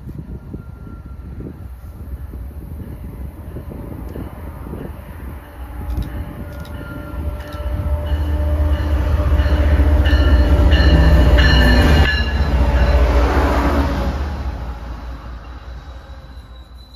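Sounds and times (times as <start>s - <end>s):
diesel train passing: 0.0s - 16.9s.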